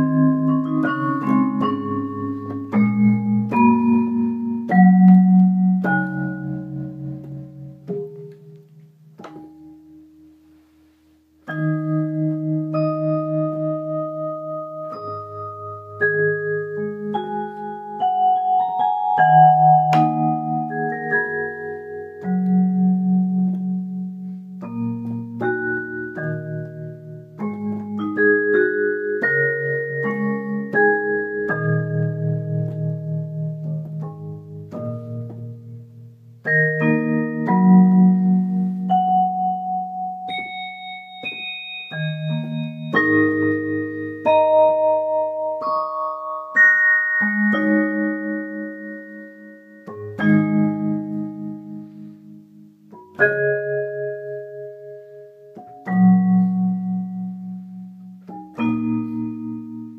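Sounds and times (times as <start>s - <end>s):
electronic keyboard vibraphone chords: 0.0s - 59.9s.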